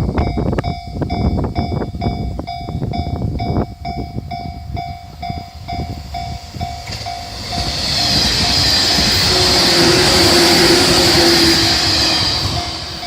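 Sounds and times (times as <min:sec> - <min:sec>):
electric train running with whine: 0:00.0 - 0:13.0
level-crossing warning bell ringing: 0:00.0 - 0:13.0
train wheels clicking over rail joints: 0:00.0 - 0:13.0.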